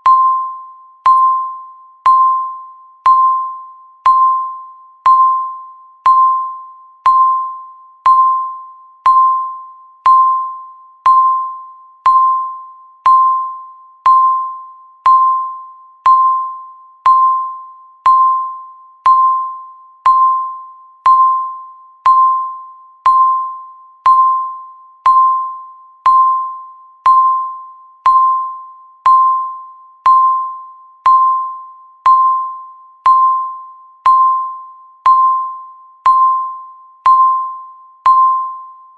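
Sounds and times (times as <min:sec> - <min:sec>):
countdown timer beeps: 0:00.0 - 0:38.9.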